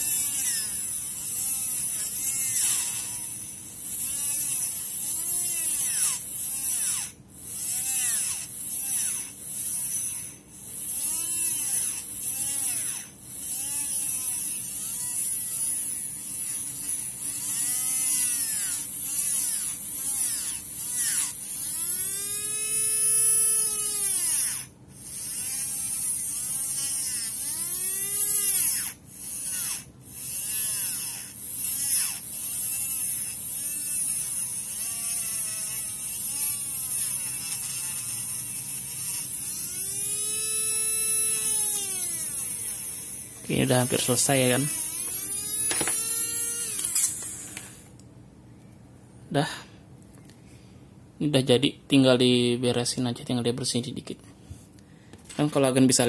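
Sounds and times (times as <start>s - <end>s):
file grinding gear: 0.0s - 47.3s
small motor whining: 0.0s - 47.9s.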